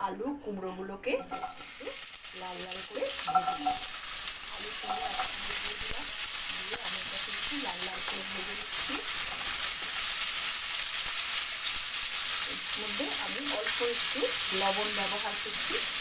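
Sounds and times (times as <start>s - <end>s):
vegetables sizzling in oil: 1.2s - 16.0s.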